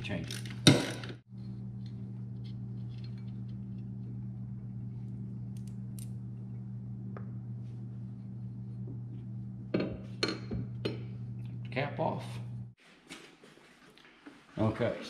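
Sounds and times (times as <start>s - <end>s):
low mechanical hum: 0.0s - 12.8s.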